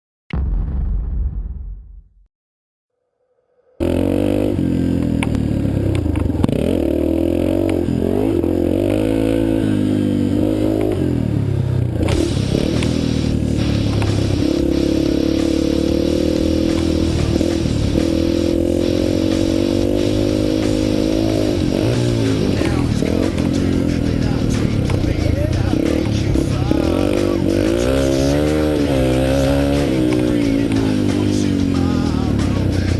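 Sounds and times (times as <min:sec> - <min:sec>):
motorbike engine revving: 0:03.8 - 0:32.9.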